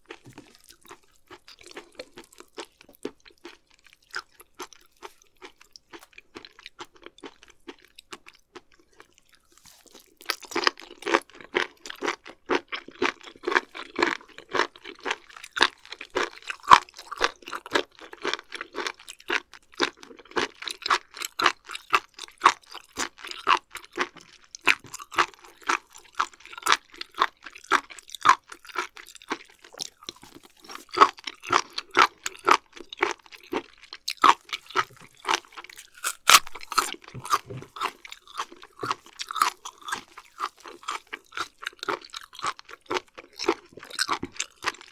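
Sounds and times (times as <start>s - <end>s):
wet crunchy chewing: 0.0s - 44.9s.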